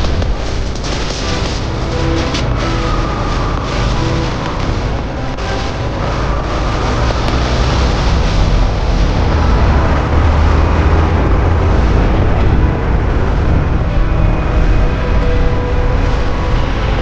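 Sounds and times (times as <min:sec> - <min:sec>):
motorcycle engine rumble: 0:00.0 - 0:17.0
road and wind rush: 0:00.0 - 0:17.0.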